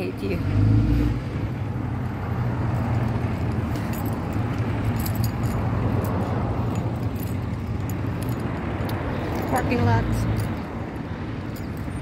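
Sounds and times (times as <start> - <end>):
light metallic rattling: 2.4 - 12.0.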